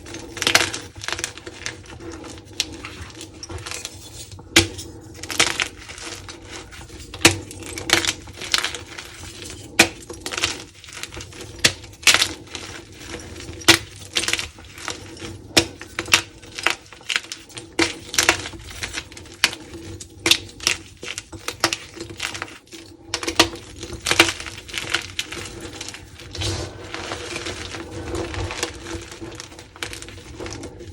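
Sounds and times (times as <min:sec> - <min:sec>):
chalk blocks crushed and crunching: 0:00.0 - 0:30.9.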